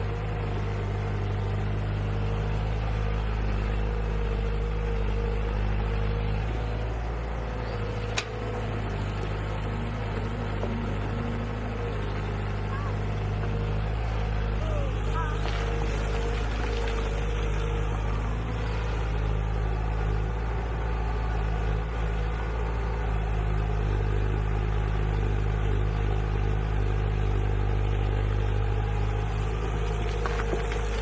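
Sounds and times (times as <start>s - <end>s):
machine engine running: 0.0s - 31.0s.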